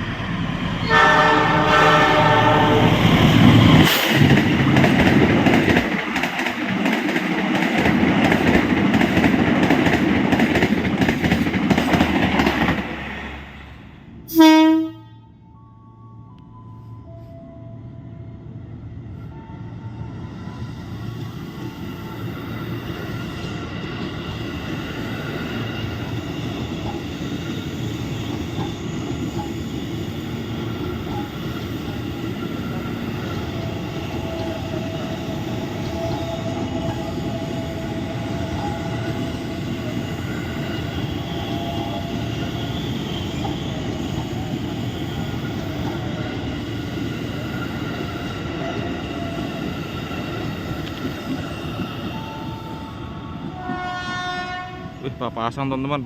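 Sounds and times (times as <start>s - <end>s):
train wheels rumbling on track: 0.0s - 14.9s, 18.4s - 56.0s.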